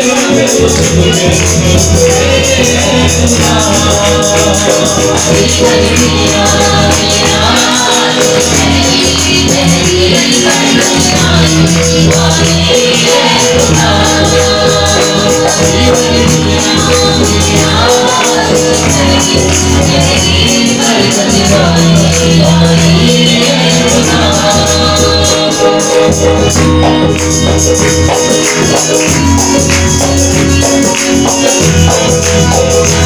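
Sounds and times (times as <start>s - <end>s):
man singing into a microphone: 0.0s - 27.5s
electronic keyboard accompaniment: 0.0s - 33.0s.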